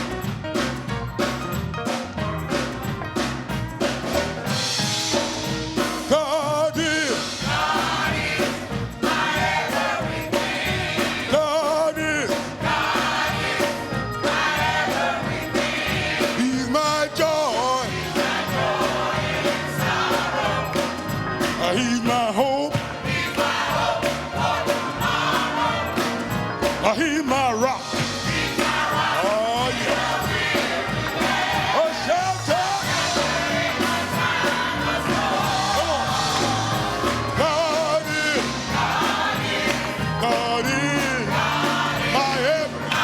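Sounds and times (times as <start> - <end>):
band playing: 0.0 - 43.0
gospel choir singing: 3.8 - 43.0.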